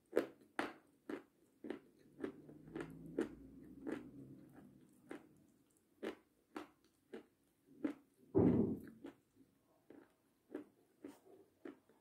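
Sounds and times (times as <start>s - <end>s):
chewing crunches: 0.0s - 8.2s, 8.8s - 12.0s.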